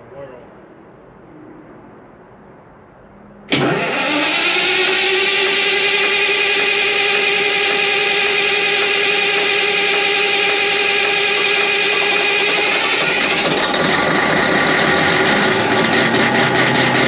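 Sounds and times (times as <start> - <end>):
diesel generator engine droning: 2.2 - 17.0.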